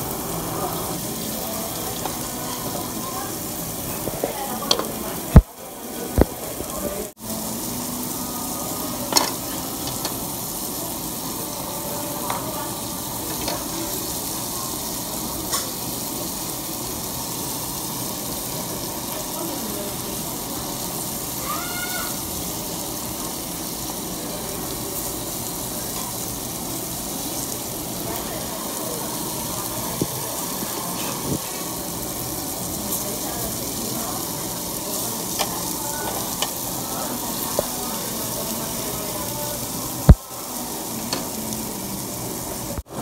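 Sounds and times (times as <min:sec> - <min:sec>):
meat sizzling on grill: 0:00.0 - 0:43.0.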